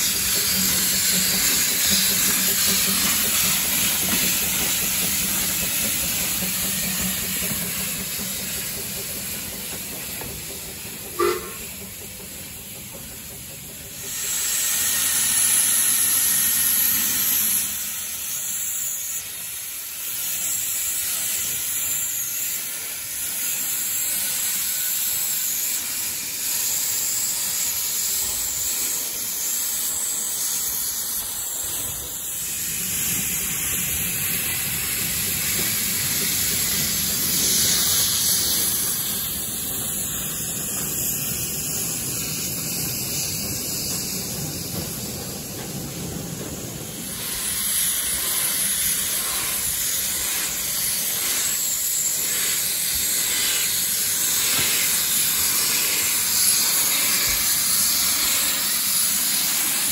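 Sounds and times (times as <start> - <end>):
steam hissing from locomotive: 0.0 - 59.9.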